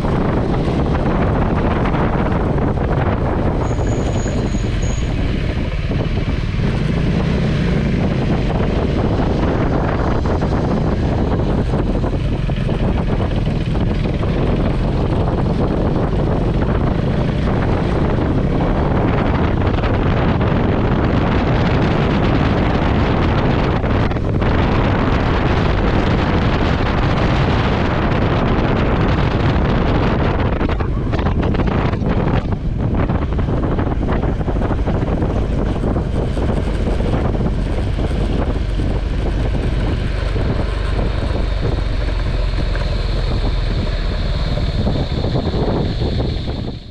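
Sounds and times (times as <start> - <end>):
motorcycle engine running: 0.0 - 46.9
wind rushing over microphone: 0.0 - 46.9.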